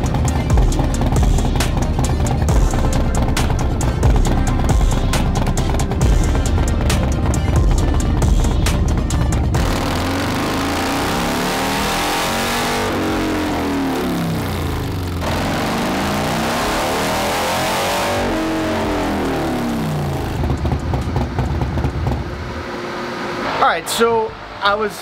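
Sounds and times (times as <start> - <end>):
motorcycle engine revving: 0.0 - 23.6.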